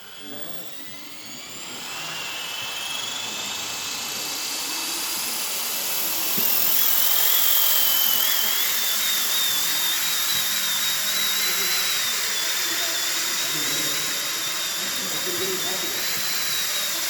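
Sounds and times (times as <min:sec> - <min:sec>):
model helicopter motor whine: 0:00.0 - 0:17.0
rotor hiss: 0:00.0 - 0:17.0.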